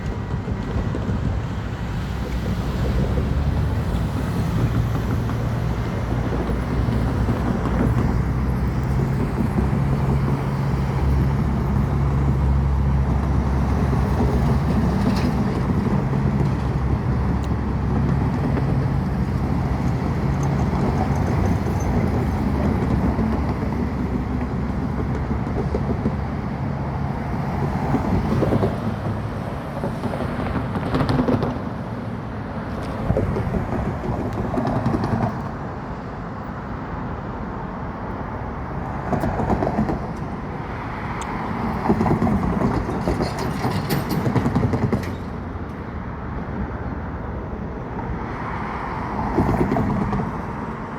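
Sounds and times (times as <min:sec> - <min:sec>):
diesel locomotive engine drone: 0:00.0 - 0:50.9
train wheels rumbling on rails: 0:00.0 - 0:50.9.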